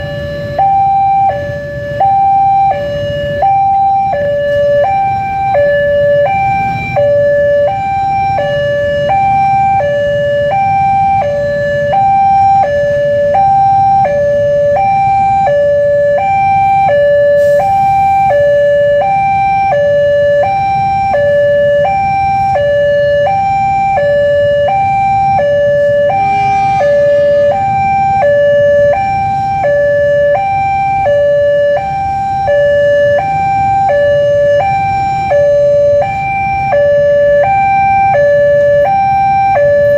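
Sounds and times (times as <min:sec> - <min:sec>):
road traffic rumble: 0:00.0 - 0:39.9
two-tone crossing alarm: 0:00.0 - 0:39.9.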